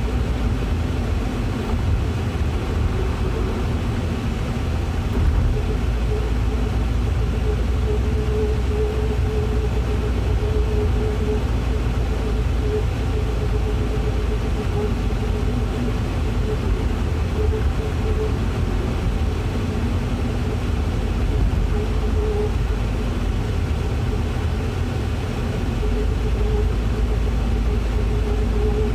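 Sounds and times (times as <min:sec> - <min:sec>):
car engine rumble: 0:00.0 - 0:28.9
faint humming whine: 0:00.0 - 0:28.9.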